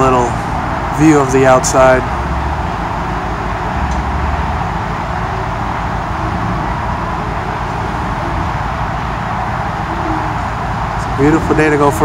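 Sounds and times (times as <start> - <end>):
car engines and traffic: 0.0 - 12.0.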